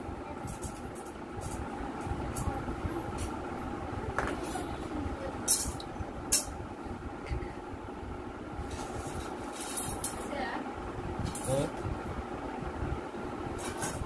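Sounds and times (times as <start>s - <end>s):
mechanical background hum: 0.0s - 14.0s.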